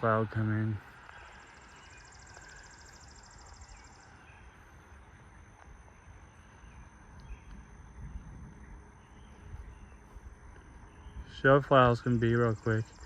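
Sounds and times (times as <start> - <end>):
faint bird chirps: 0.0 - 13.0
high insect trill: 0.0 - 13.0
low wind rumble: 0.0 - 13.0
thin steady high tone: 0.0 - 13.0.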